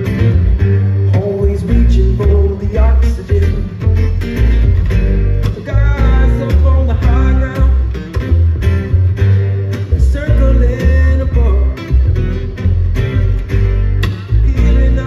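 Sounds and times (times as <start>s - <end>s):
acoustic guitars picking and strumming: 0.0s - 15.0s
upright bass plucking: 0.0s - 15.0s.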